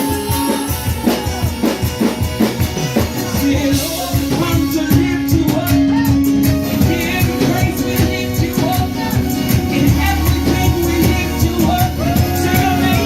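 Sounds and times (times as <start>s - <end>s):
drums: 0.0s - 13.0s
person singing: 0.0s - 13.0s
worship band playing: 0.0s - 13.0s.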